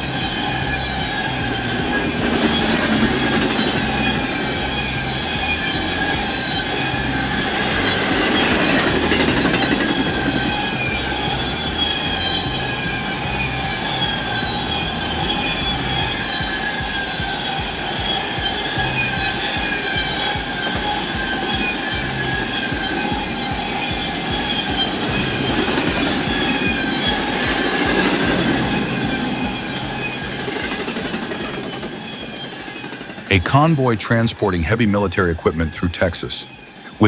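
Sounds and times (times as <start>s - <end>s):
train wheels squealing on rails: 0.0s - 33.3s.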